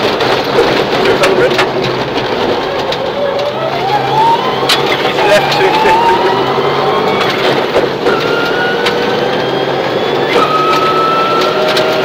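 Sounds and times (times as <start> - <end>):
car engine accelerating with upshifts: 0.0 - 12.0
gravel rumbling against car: 0.0 - 12.0.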